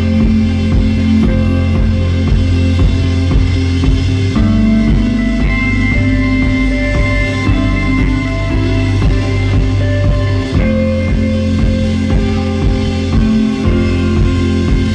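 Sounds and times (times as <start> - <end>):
instrumental rock music: 0.0 - 14.9.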